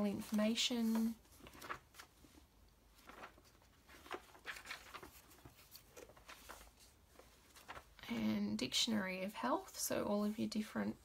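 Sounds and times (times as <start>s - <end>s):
soft paper rustles of pages: 0.0s - 11.0s.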